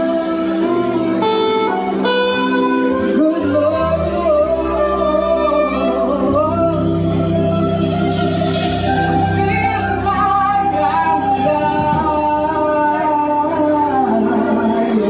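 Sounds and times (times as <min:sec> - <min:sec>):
person singing long notes: 0:00.0 - 0:15.0
rock band playing: 0:00.0 - 0:15.0.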